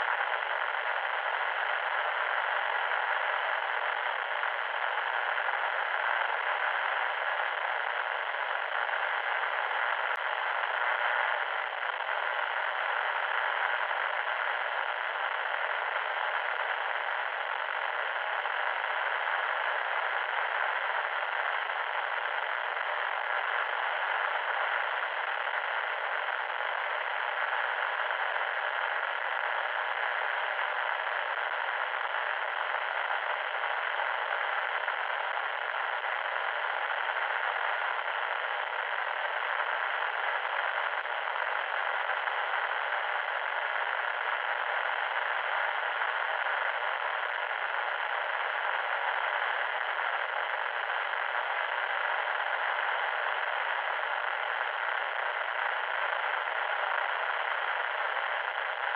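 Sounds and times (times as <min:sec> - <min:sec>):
loud static hiss: 0:00.0 - 0:58.9.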